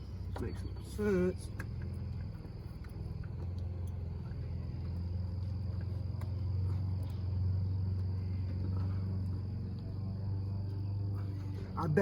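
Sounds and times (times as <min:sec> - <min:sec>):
crickets trilling: 0:00.0 - 0:12.0
steady low hum: 0:00.0 - 0:12.0.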